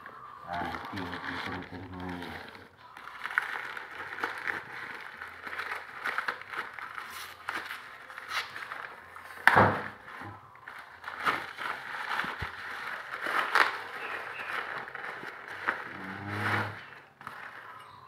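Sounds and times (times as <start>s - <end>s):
plastic and paper crinkling: 0.0s - 18.0s.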